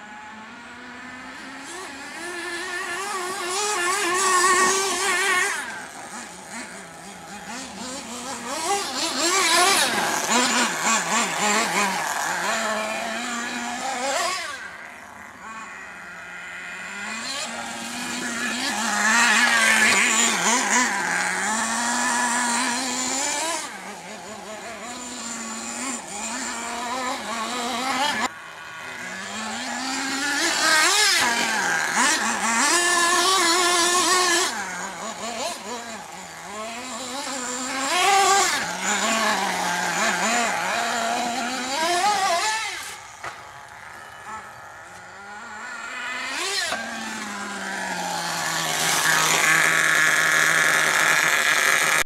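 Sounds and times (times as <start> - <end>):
rc truck engine revving: 0.0 - 52.0.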